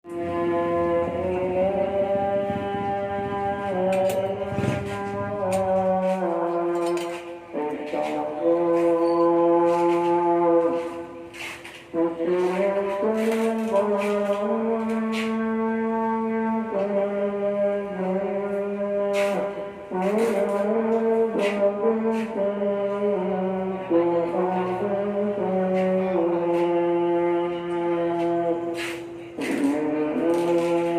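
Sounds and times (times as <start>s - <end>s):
brass-like background music: 0.1s - 30.9s.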